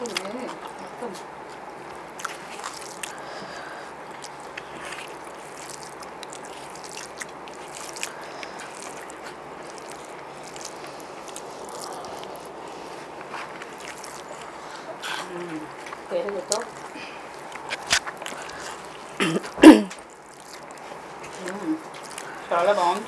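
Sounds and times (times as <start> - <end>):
fingers mixing rice: 0.0 - 19.2, 20.0 - 23.0
chewing: 0.0 - 23.0
steady background hiss: 0.0 - 23.0.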